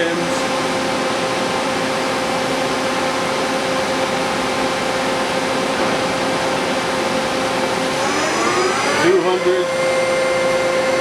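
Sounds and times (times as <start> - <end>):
lathe humming with whine: 0.0 - 11.0.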